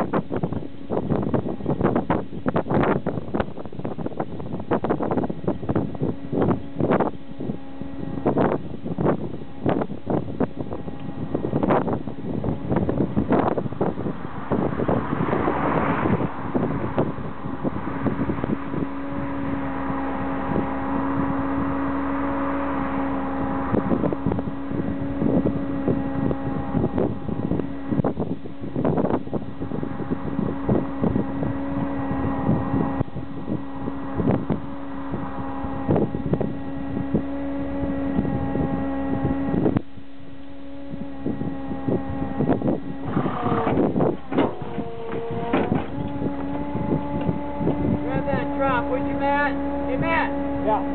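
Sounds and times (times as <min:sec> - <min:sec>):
steady mechanical hum: 0:00.0 - 0:50.9
wind noise: 0:00.0 - 0:50.9.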